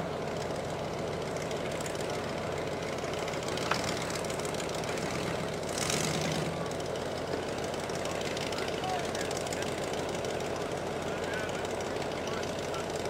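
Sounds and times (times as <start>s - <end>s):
truck engine low drone: 0.0s - 13.0s.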